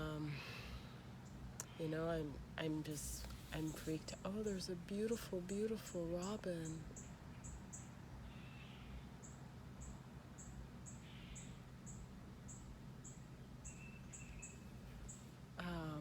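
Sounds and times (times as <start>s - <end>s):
faint bird chirps: 3.1s - 16.0s.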